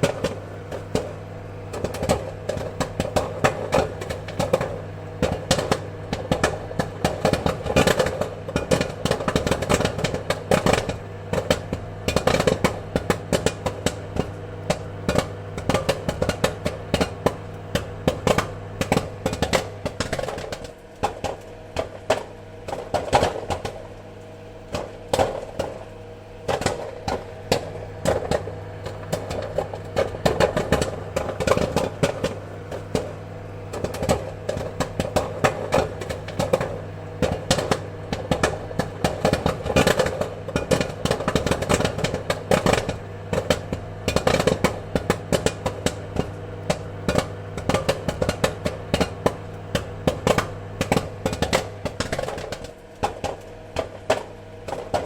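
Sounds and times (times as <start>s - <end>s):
popcorn popping: 0.0s - 55.0s
steady low hum: 0.0s - 55.0s.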